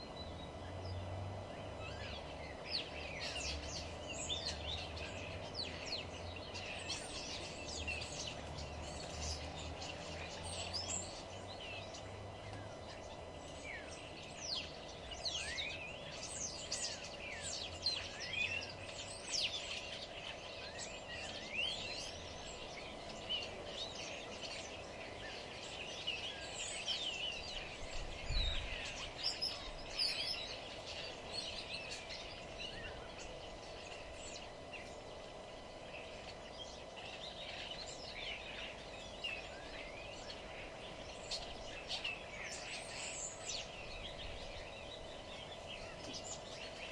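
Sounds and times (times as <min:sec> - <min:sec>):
songbirds chirping and twittering: 0:00.0 - 0:46.9
steady background hum: 0:00.0 - 0:46.9.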